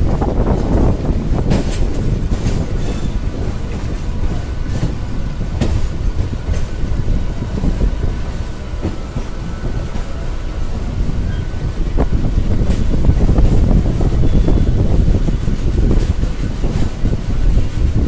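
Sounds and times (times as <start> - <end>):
train rumbling on track: 0.0 - 18.0
wheels knocking over rail joints: 0.0 - 18.0.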